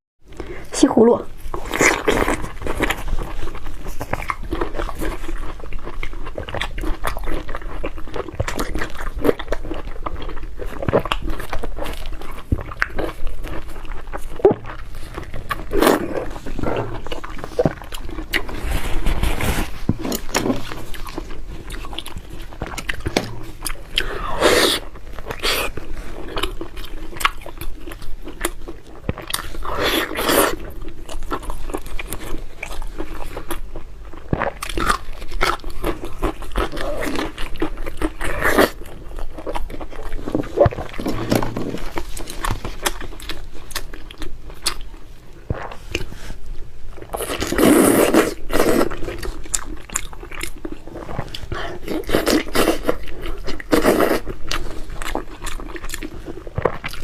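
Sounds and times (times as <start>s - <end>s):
chewing and biting food: 1.4s - 57.0s.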